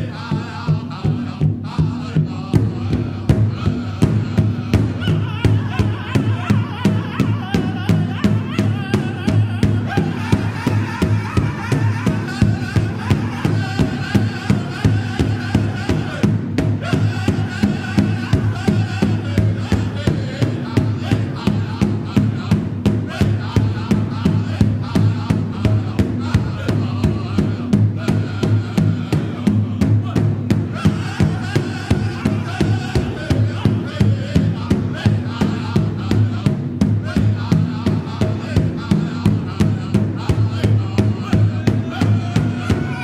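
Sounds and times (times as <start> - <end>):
music with steady drumbeat: 0.0 - 43.0.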